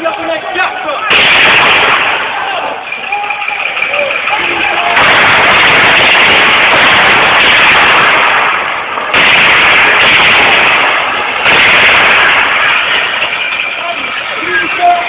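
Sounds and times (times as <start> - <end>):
crackling gunfire: 0.0 - 15.0.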